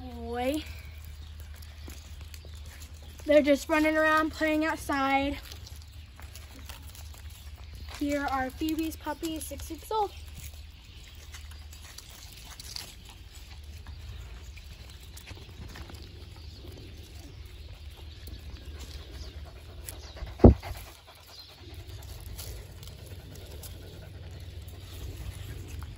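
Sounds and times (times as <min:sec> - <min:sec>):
puppies panting and sniffing: 0:00.1 - 0:25.9.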